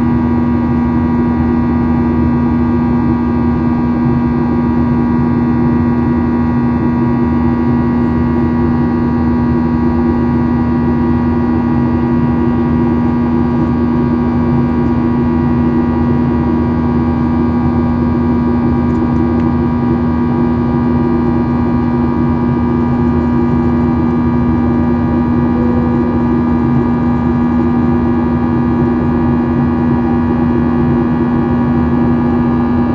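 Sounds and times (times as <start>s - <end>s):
jet engines droning in cabin: 0.0s - 32.9s.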